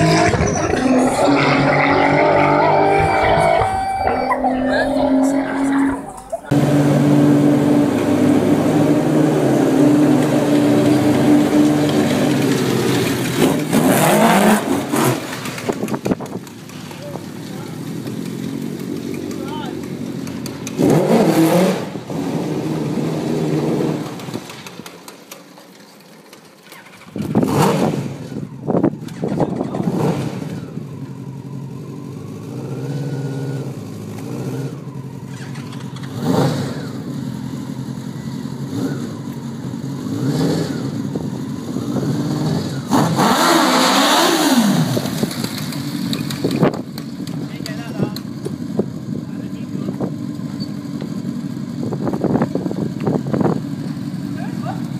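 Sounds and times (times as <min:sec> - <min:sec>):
buggy engine revving: 0:00.0 - 0:54.9.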